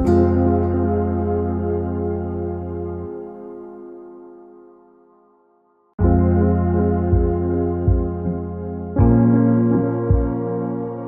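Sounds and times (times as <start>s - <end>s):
ambient music with sustained chords: 0.0s - 11.0s.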